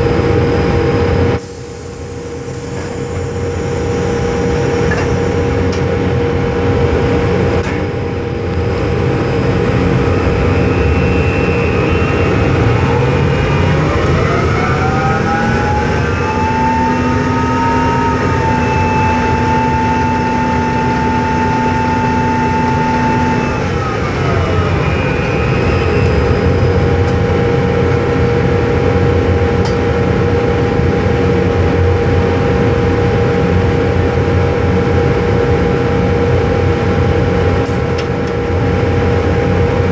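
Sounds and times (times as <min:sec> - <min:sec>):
drilling rig machinery hum: 0:00.0 - 0:39.9
motor whine rising in pitch: 0:00.0 - 0:39.9.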